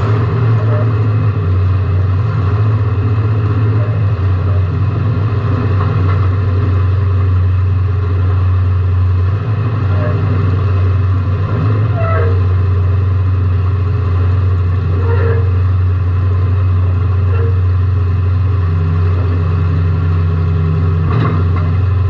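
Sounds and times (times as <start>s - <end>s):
car engine low drone: 0.0s - 22.0s.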